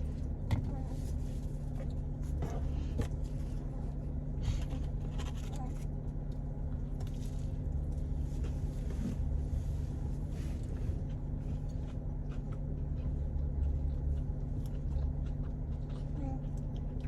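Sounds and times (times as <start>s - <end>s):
car idling hum: 0.0s - 17.0s.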